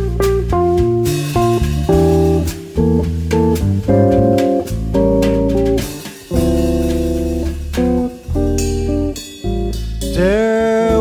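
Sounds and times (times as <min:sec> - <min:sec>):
bass line: 0:00.0 - 0:11.0
electric guitar chords: 0:00.0 - 0:11.0.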